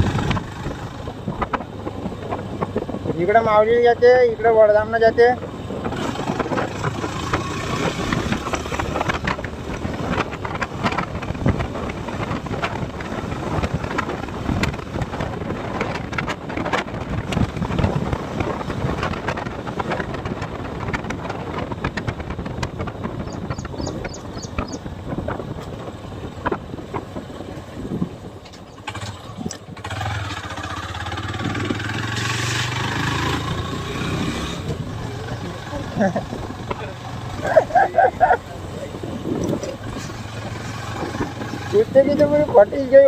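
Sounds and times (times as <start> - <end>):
motorcycle engine running: 0.0 - 3.4, 4.3 - 43.0
wind buffeting microphone: 0.0 - 43.0.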